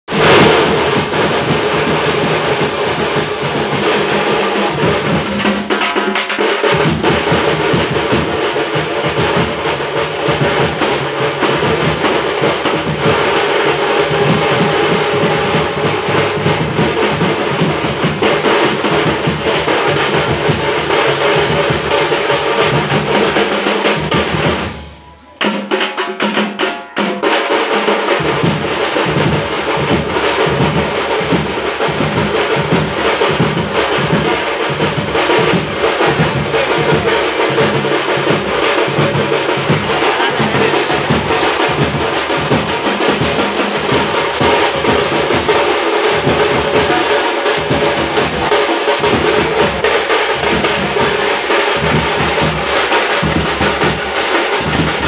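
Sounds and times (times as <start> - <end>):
drum troupe playing fast rhythm: 0.1 - 55.0.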